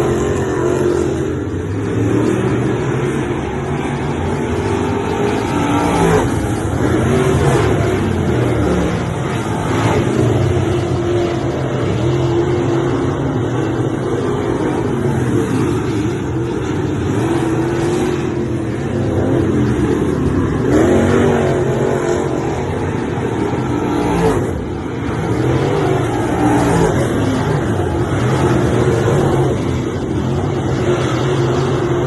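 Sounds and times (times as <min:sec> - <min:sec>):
race car engines running hard: 0:00.0 - 0:32.0.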